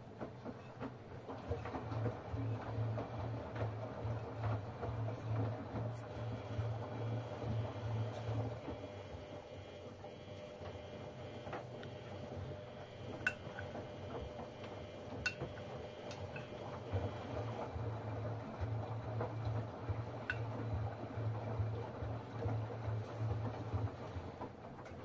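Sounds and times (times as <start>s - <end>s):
washing machine drums tumbling: 0.0s - 10.1s, 11.0s - 25.0s
low motor hum: 0.0s - 25.0s.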